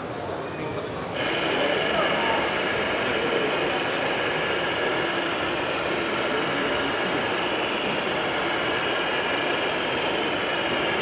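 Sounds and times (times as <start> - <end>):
model trucks running with motor whine: 0.0 - 11.0.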